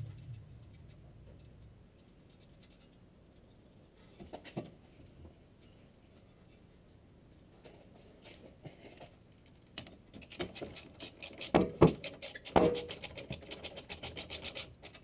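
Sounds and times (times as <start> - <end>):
faint clicks and scrapes: 0.0 - 15.0.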